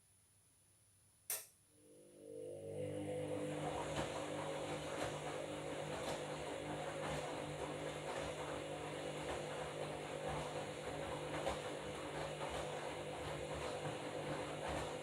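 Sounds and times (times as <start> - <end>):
washing machine motor hum: 1.8 - 15.0.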